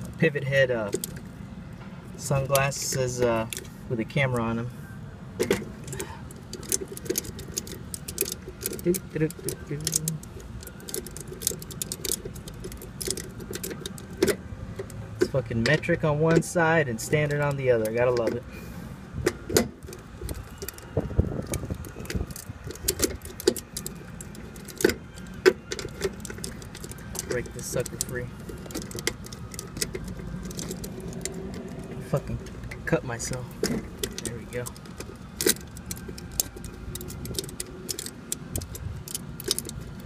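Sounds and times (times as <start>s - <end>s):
low steady rumble: 0.0s - 40.0s
metallic clicks of hardware: 5.4s - 18.4s, 19.2s - 40.0s.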